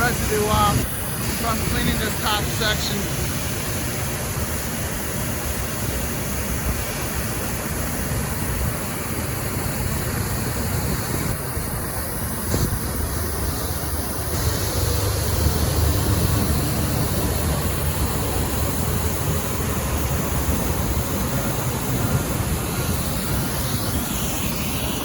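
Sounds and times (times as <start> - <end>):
pressure washer spray: 0.0 - 25.0.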